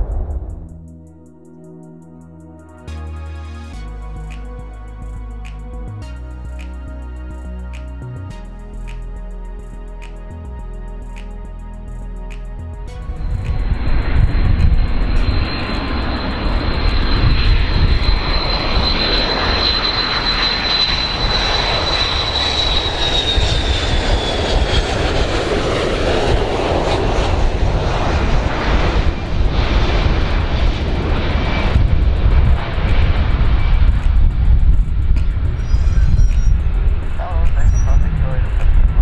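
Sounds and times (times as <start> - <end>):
jet engine deep rumble: 0.0 - 0.8, 2.9 - 39.0
jet engines whining: 0.0 - 39.0.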